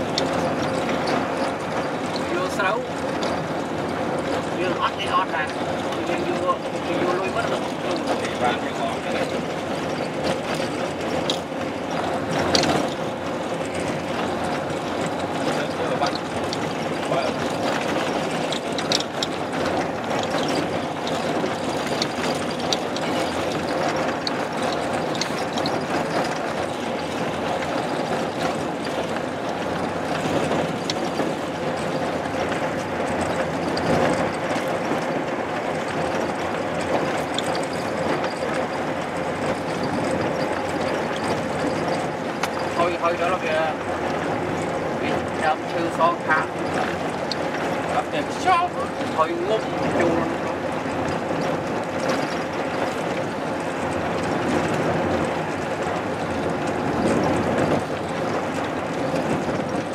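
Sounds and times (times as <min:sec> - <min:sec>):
small rattles and clicks: 0:00.0 - 0:59.9
vehicle engine hum: 0:00.0 - 0:59.9.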